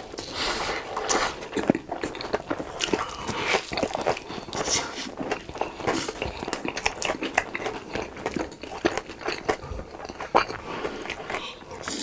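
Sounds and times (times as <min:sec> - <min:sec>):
crunching crispy fried food: 0:00.0 - 0:12.0.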